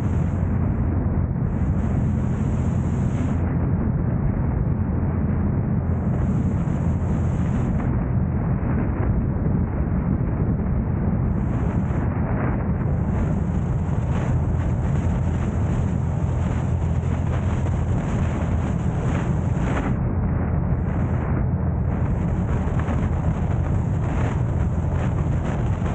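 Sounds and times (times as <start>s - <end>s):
car engine and road rumble: 0.0s - 8.3s, 11.2s - 25.9s
wind noise on microphone: 0.0s - 25.9s.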